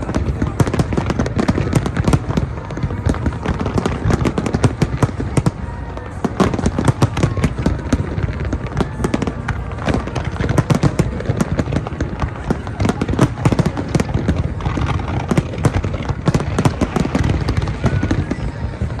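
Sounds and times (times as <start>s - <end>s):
continuous low rumble: 0.0s - 19.0s
fireworks cracks and bangs: 0.0s - 19.0s.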